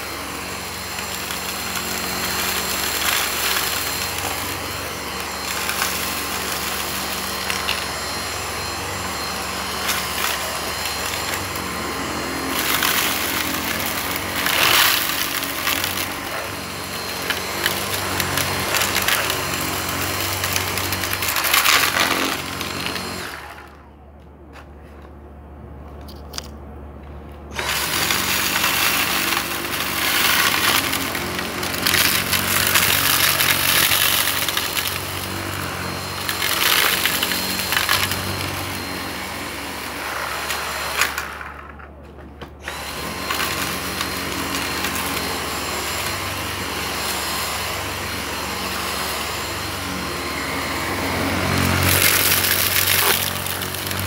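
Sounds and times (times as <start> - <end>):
cordless vacuum cleaner running: 0.0 - 23.9, 27.5 - 54.0.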